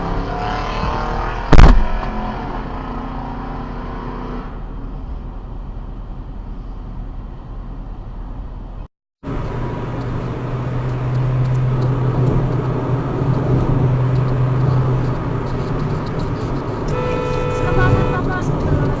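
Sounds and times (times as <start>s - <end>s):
car engine: 0.0s - 19.0s
road noise: 0.0s - 19.0s.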